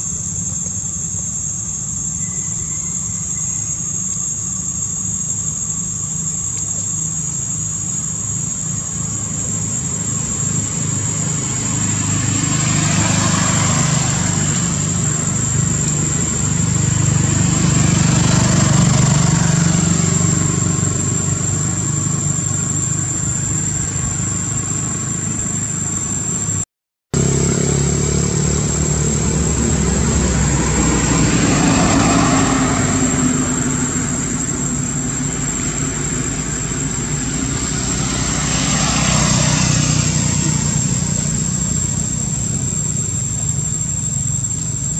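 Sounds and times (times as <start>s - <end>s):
thin high whine: 0.0s - 26.6s, 27.2s - 44.9s
vehicles passing: 0.0s - 26.6s, 27.2s - 44.9s.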